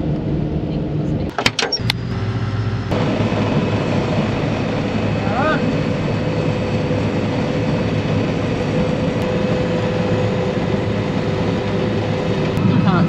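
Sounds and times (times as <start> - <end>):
engine droning with whine: 0.0 - 13.0.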